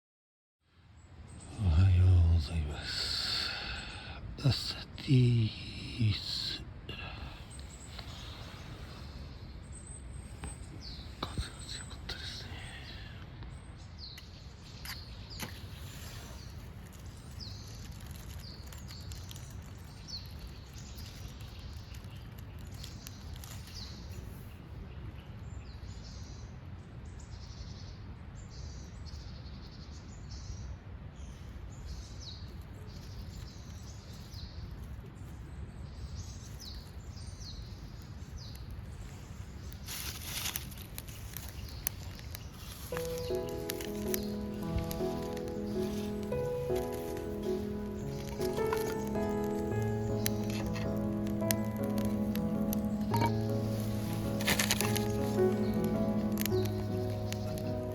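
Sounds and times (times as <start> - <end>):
low rumble of outdoor noise: 0.6 - 57.9
small birds chirping: 1.0 - 26.5, 31.2 - 57.9.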